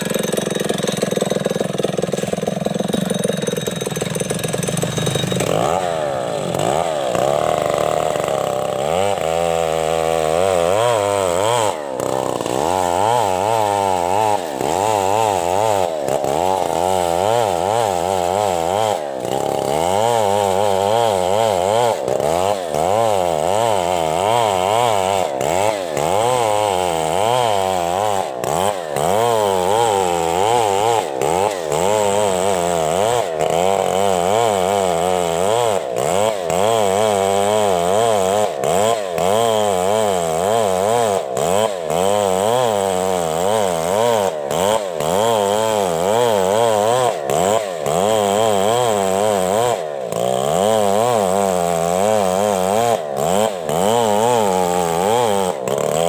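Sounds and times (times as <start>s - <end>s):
chainsaw cutting through wood: 0.0s - 56.0s.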